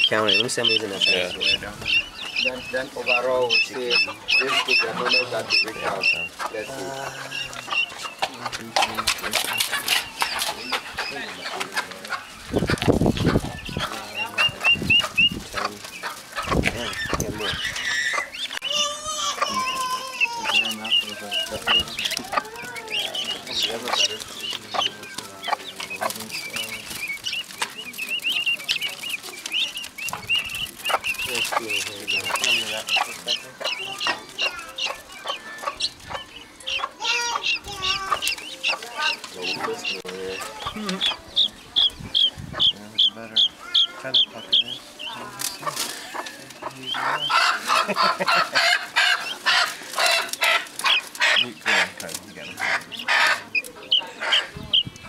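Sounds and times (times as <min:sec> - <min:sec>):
chickens clucking and calling: 0:00.0 - 0:55.0.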